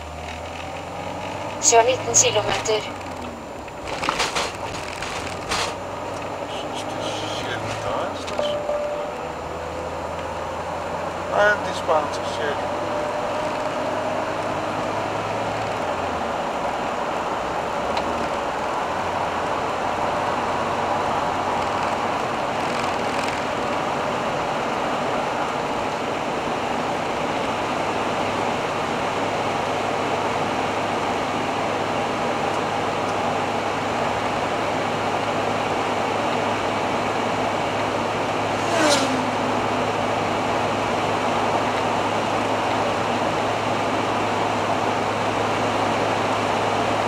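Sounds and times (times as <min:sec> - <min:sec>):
motorhome engine at highway speed: 0:00.0 - 0:47.0
road noise: 0:00.0 - 0:47.0.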